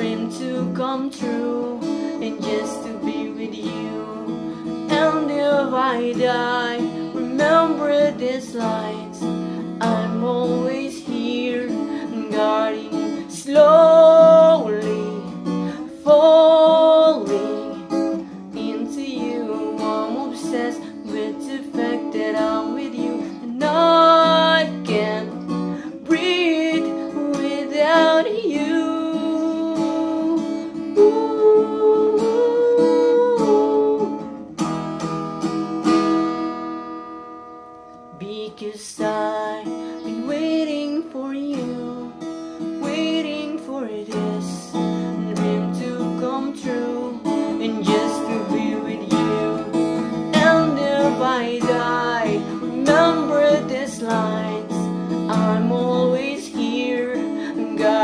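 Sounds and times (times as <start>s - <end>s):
man singing: 0.0s - 34.2s, 38.1s - 58.0s
acoustic guitar strumming: 0.0s - 58.0s.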